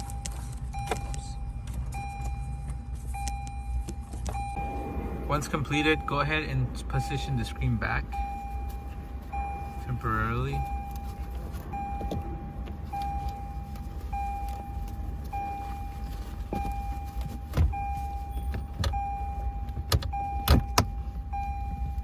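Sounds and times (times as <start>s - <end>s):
car warning chime beeping: 0.0s - 22.0s.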